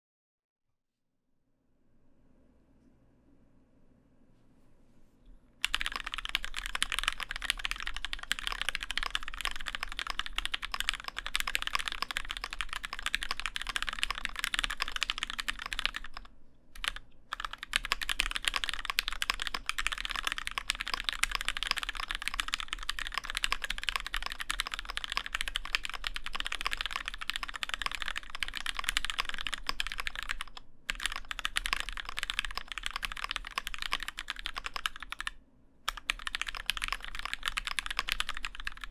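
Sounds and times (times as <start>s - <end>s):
fast mechanical keyboard typing: 5.6s - 38.9s.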